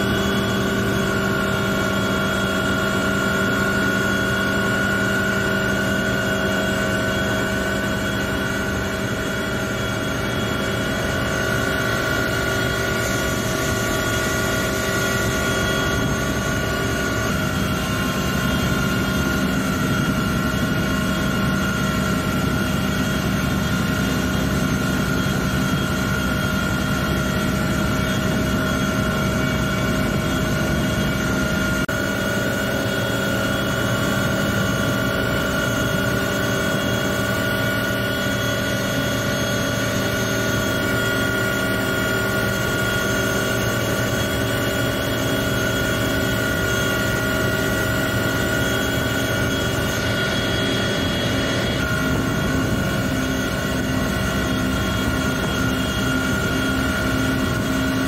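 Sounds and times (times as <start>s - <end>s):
helicopter engine and rotor: 0.0s - 58.0s
steady whine: 0.0s - 58.0s.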